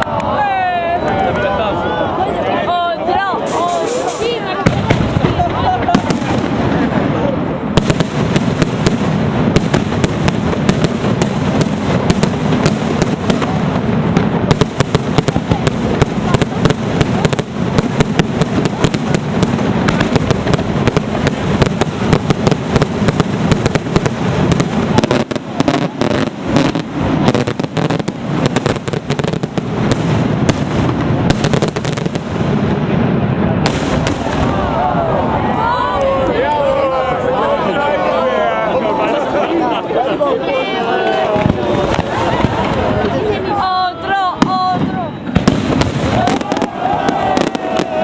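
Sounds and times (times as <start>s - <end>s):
fireworks banging and crackling: 2.7s - 37.0s, 40.9s - 48.0s.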